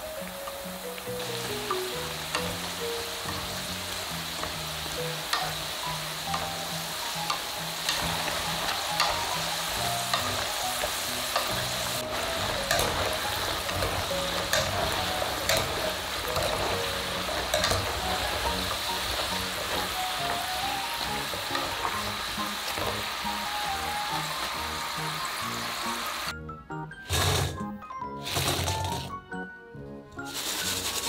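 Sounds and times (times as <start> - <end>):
potatoes sizzling in hot oil: 0.0 - 26.3, 28.2 - 29.1, 30.2 - 31.0
light background music: 0.0 - 31.0
sharp clicks of frying oil: 0.2 - 25.2.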